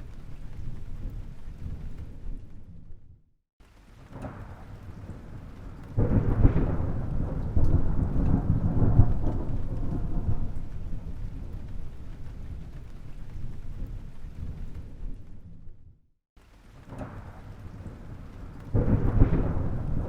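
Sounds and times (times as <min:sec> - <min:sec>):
thunder clap and rumble: 0:00.0 - 0:03.2, 0:03.9 - 0:16.0, 0:16.7 - 0:20.0.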